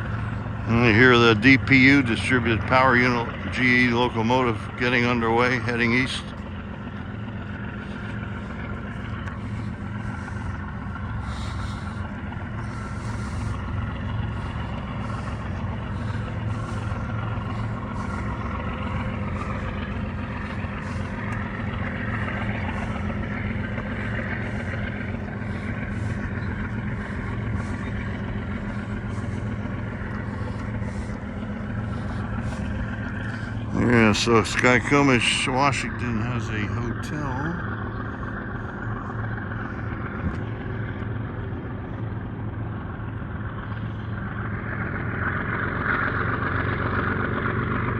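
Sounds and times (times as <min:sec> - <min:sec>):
locomotive diesel engine running: 0:00.0 - 0:47.9.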